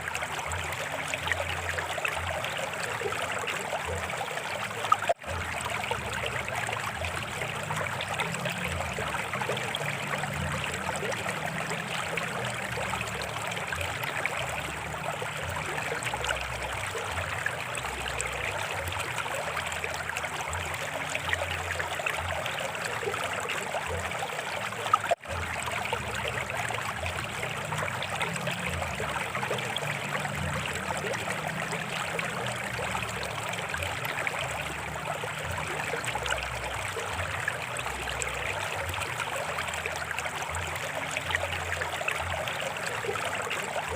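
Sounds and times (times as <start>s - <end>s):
stream trickling: 0.0s - 43.9s.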